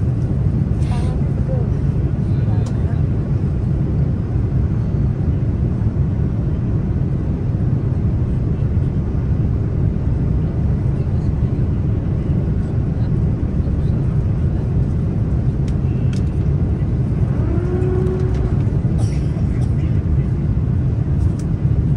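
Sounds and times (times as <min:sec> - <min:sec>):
airplane cabin roar: 0:00.0 - 0:21.9.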